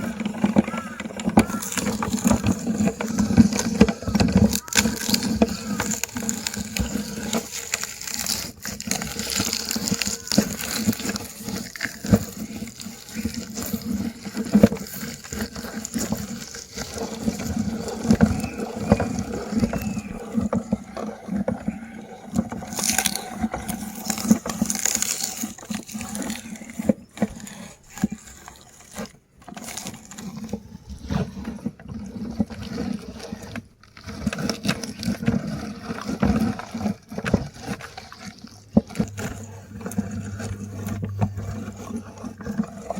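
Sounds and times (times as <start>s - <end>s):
candy crackling and crunching: 0.0s - 42.9s
meat grinder humming: 0.0s - 42.9s.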